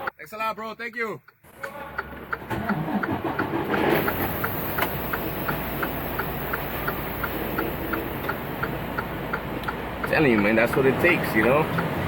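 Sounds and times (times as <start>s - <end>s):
rapid even engine ticking: 1.2s - 12.0s
diesel engine idling: 1.3s - 12.0s.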